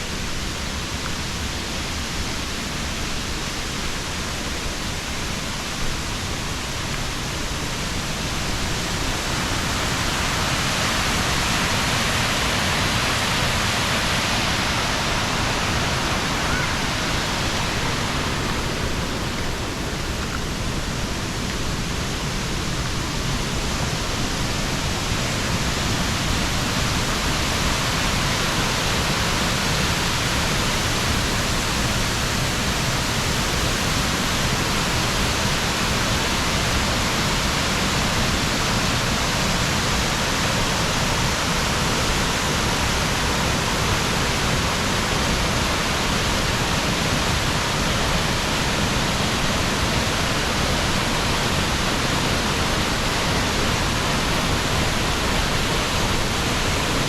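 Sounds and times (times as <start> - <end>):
heavy falling water rushing: 0.0 - 57.0.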